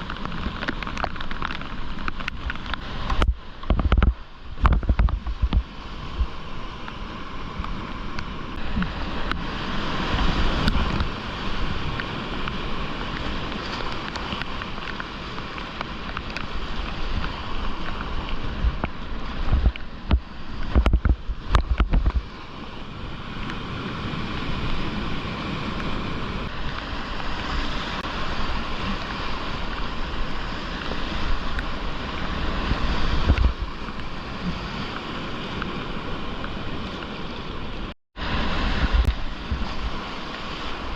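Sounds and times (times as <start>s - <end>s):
whitewater rushing and splashing: 0.0s - 40.9s.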